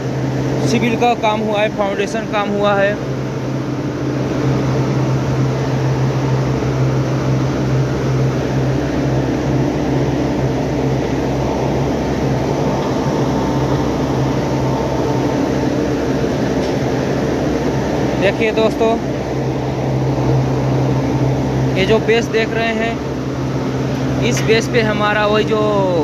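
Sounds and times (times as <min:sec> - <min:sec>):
industrial machinery drone: 0:00.0 - 0:26.0.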